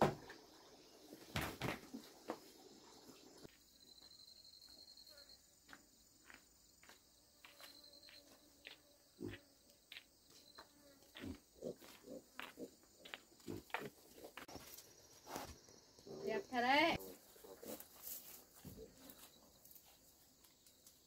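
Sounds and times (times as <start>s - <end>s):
high insect chirp: 0.2s - 21.0s.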